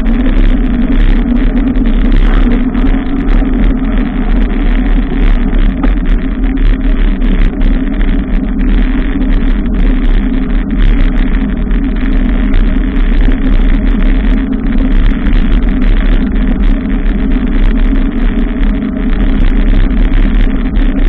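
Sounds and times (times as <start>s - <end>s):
bicycle riding rumble: 0.0s - 21.0s.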